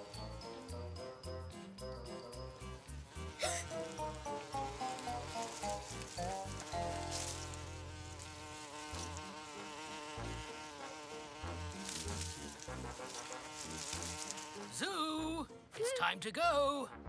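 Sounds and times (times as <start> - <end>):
cartoon insect buzzing: 0.0 - 14.8
background music: 0.0 - 17.0.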